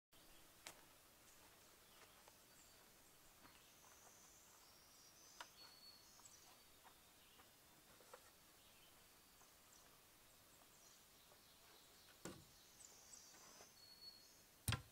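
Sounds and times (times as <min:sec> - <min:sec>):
distant high bird chirps: 0:01.4 - 0:14.9.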